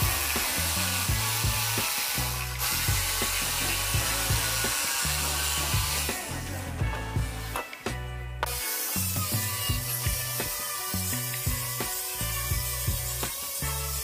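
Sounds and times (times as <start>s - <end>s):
electric jigsaw cutting wood: 0.0s - 7.8s, 8.5s - 14.0s
background music with bass and beat: 0.0s - 14.0s.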